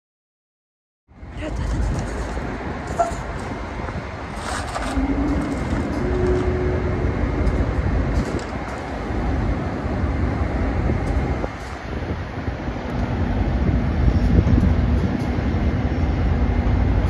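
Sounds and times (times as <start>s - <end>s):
train rumbling past: 1.1s - 17.0s.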